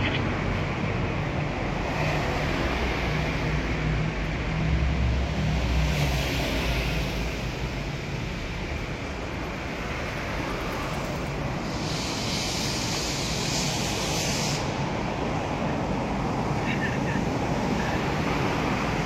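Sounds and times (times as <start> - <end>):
moving train rumble and hiss: 0.0 - 19.0.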